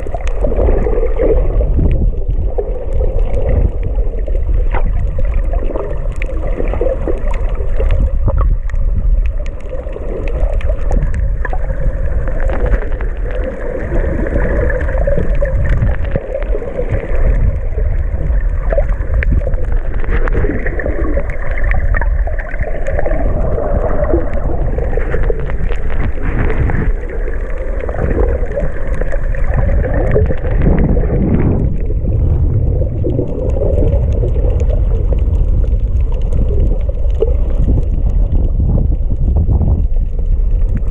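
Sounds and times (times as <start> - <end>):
low underwater rumble: 0.0 - 40.9.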